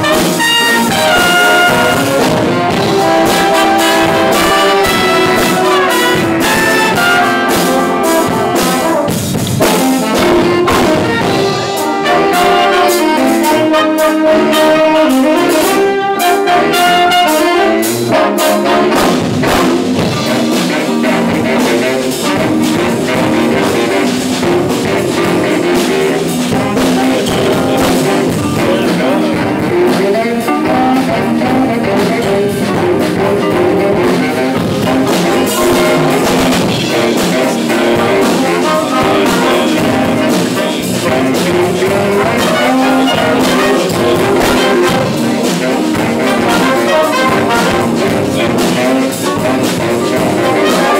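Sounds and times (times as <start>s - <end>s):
jazz band playing: 0.0s - 50.9s.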